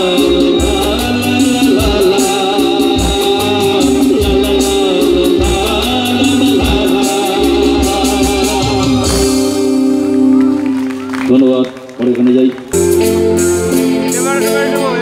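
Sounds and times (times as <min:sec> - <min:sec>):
live band through pa system: 0:00.0 - 0:15.0.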